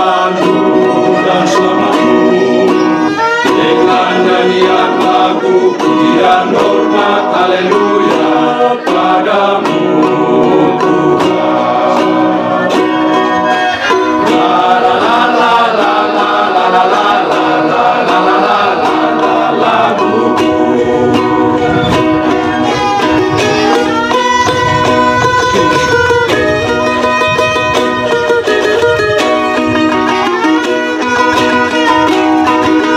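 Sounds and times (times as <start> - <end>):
men's choir singing: 0.0 - 26.5, 30.0 - 32.9
strummed ukuleles: 0.0 - 32.9
violin: 0.0 - 32.9.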